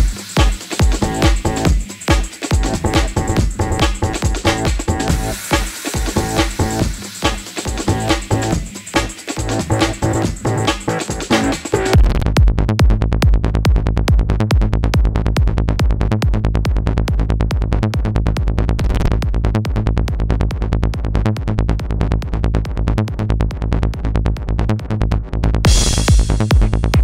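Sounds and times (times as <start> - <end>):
techno beat with deep bass: 0.0 - 27.0.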